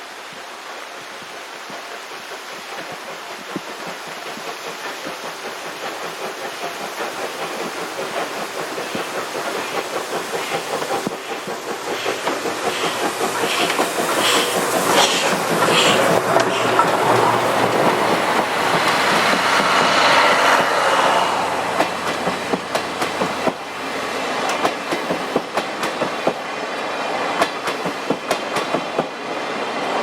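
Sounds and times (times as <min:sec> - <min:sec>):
steam hissing: 0:00.0 - 0:30.0
steam locomotive chuffing: 0:00.2 - 0:30.0.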